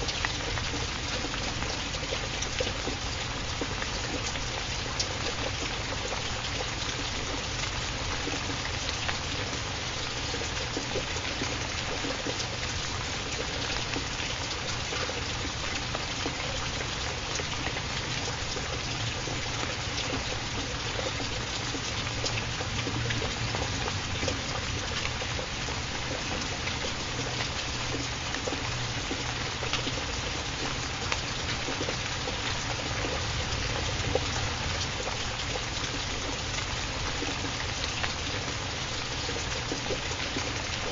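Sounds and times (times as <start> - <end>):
running water hiss: 0.0 - 40.9
water drips ticking: 0.0 - 40.9.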